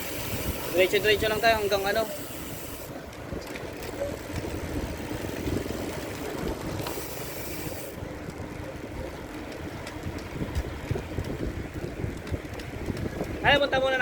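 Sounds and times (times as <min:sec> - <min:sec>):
vehicle road rumble: 0:00.0 - 0:14.0.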